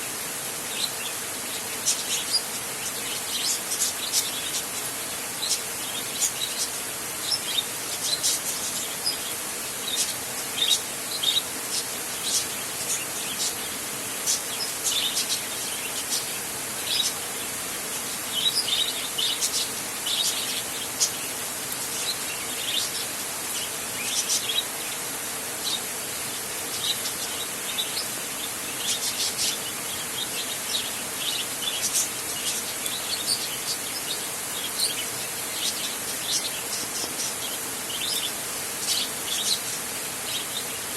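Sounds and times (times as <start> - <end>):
birds chirping: 0.0 - 40.9
steady background hiss: 0.0 - 40.9.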